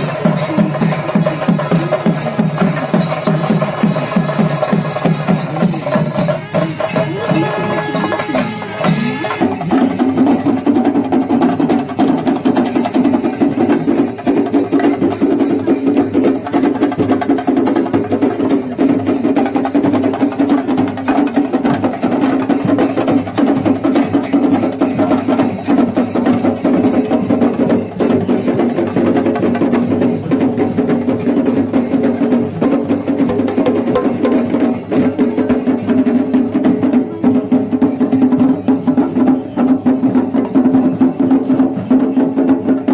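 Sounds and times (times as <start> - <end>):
stick-beaten drums playing fast: 0.0 - 42.9.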